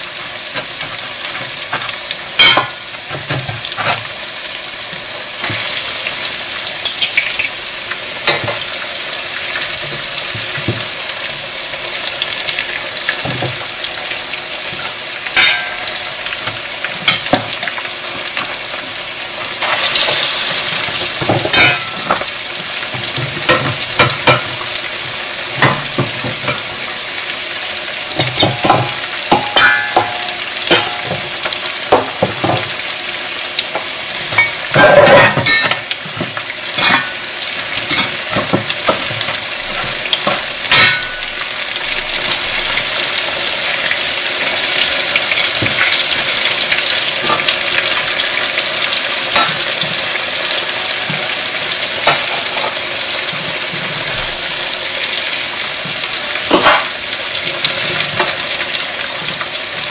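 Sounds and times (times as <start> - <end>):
chicken deep-frying in oil: 0.0 - 59.9.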